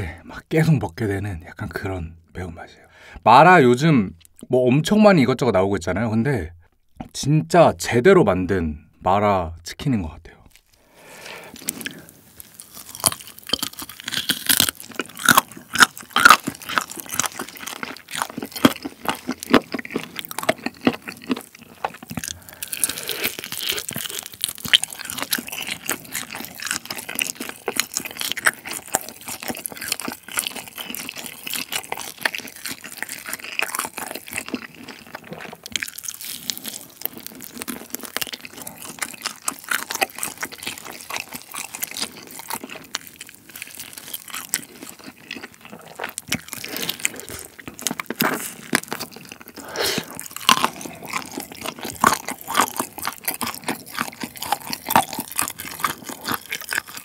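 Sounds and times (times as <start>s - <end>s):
biting and chewing chicken: 10.4s - 57.0s.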